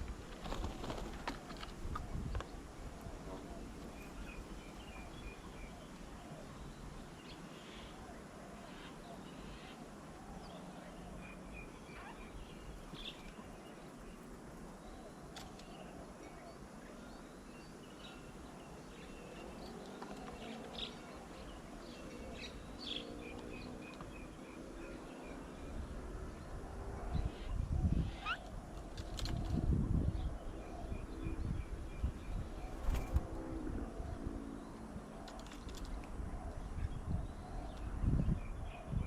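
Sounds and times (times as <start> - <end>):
birds chirping and calling: 0.0 - 39.0
low background noise: 0.0 - 39.0.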